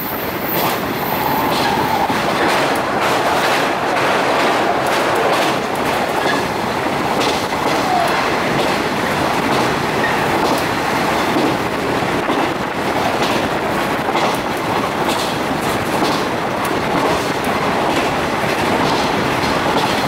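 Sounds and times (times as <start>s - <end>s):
train wheels rumbling on rail: 0.0s - 20.0s
wheels clicking over rail joints: 0.5s - 11.6s, 12.2s - 20.0s.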